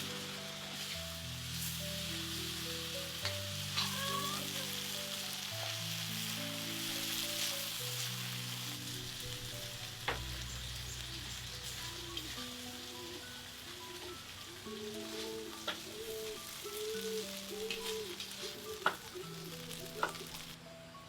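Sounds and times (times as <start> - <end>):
food sizzling in a pan: 0.0 - 20.6
soft background music: 0.0 - 21.0.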